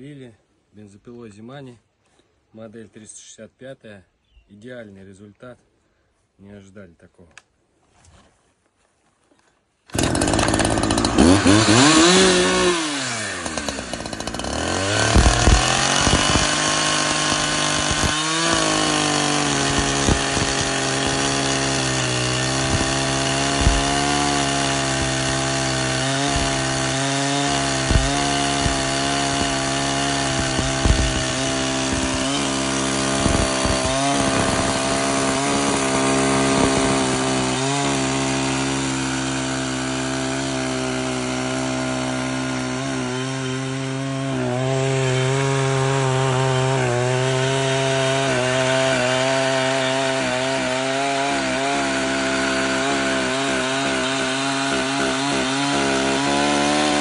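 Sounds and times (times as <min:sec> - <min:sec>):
chainsaw cutting log: 0:09.8 - 0:57.0.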